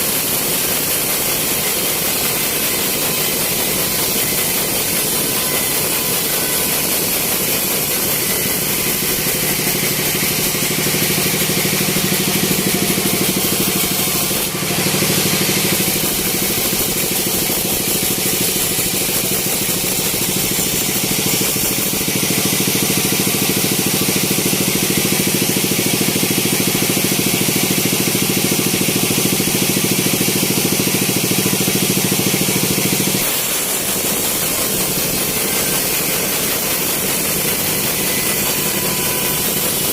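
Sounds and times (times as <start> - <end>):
sawmill machinery humming and hissing: 0.0 - 39.9.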